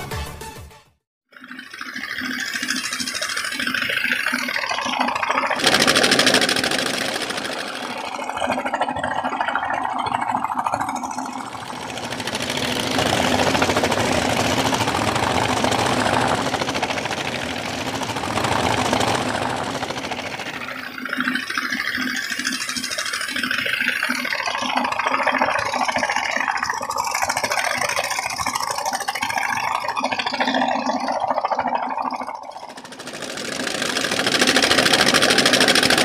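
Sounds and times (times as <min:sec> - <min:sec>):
engine pulsing hum: 0:01.4 - 0:36.0.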